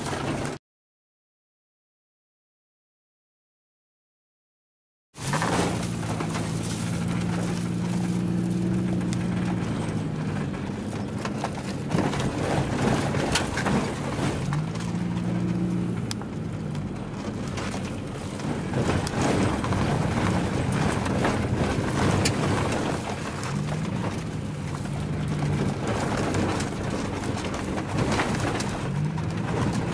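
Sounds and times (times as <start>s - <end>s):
tyre noise on rough road: 0.0s - 0.6s, 5.2s - 29.9s
car engine running: 5.2s - 29.9s
knocks and rattles: 5.2s - 29.9s.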